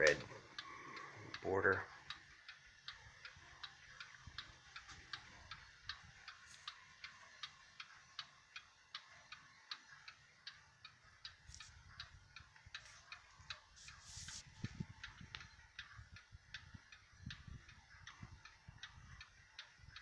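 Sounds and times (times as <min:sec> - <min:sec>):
clock ticking: 0:00.0 - 0:20.0.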